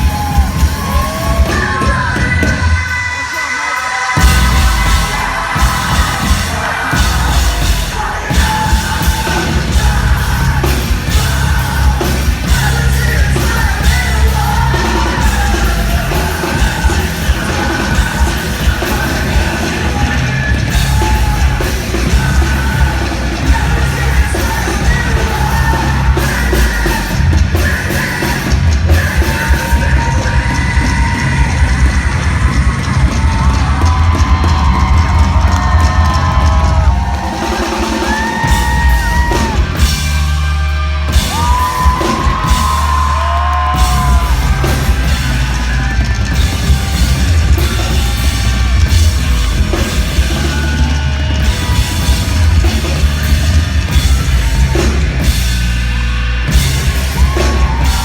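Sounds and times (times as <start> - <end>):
heavy drums: 0.0 - 58.0
rock band playing live: 0.0 - 58.0.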